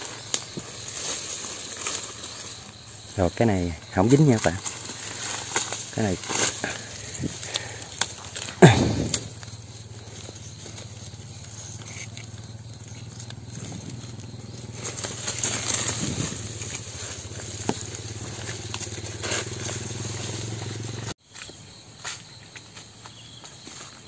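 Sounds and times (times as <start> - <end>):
twigs and brush rustling: 0.0 - 21.5.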